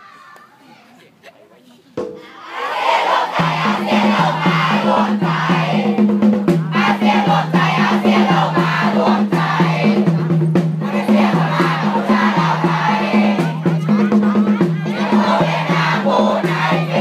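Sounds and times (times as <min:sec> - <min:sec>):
steady drumbeat: 0:02.0 - 0:17.0
crowd singing in unison: 0:02.3 - 0:17.0.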